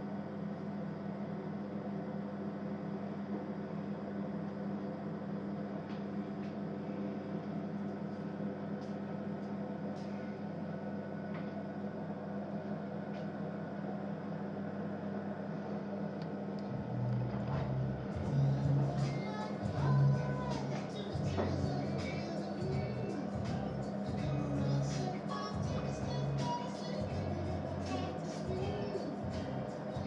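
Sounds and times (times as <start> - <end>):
pottery wheel motor humming: 0.0 - 30.0.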